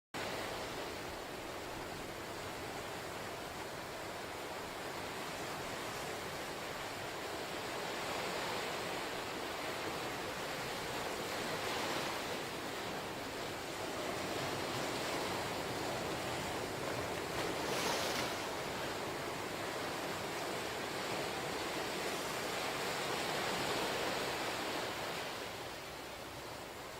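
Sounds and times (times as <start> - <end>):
ocean surf washing ashore: 0.2 - 26.9.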